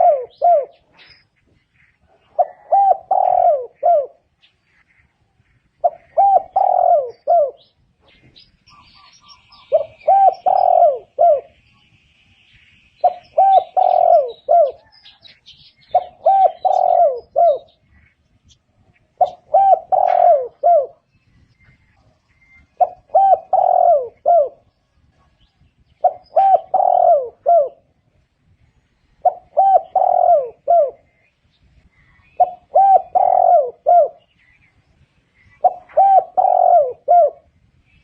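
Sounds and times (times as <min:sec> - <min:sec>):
dove cooing: 0:00.0 - 0:01.2, 0:01.8 - 0:05.0, 0:05.6 - 0:11.6, 0:13.0 - 0:18.1, 0:18.8 - 0:28.2, 0:29.1 - 0:34.7, 0:35.4 - 0:37.6
small birds chirping: 0:00.0 - 0:38.0.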